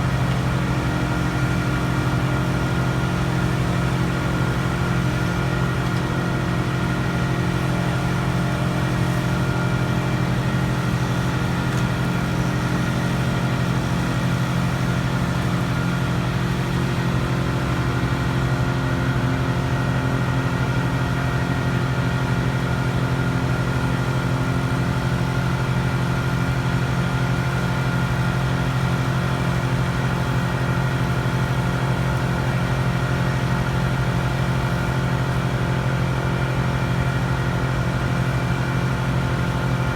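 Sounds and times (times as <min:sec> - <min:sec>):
crane engine droning: 0:00.0 - 0:39.9.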